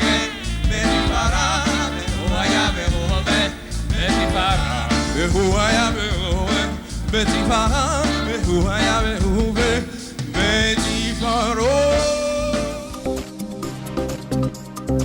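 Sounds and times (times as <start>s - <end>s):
person singing with vibrato: 0.0s - 13.1s
bass: 0.0s - 15.0s
drums: 0.0s - 15.0s.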